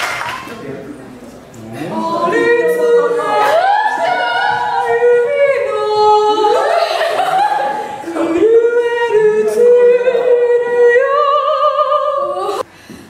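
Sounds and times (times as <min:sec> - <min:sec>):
unaccompanied singing: 0:01.8 - 0:12.6.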